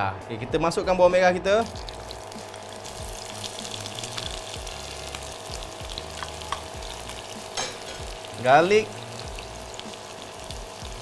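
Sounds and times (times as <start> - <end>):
shallots sizzling in hot oil: 1.6 - 11.0.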